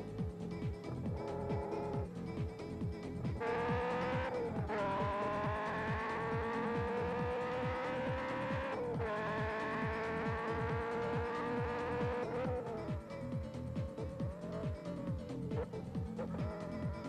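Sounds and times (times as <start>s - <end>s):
race car engine at high revs: 1.1s - 17.0s.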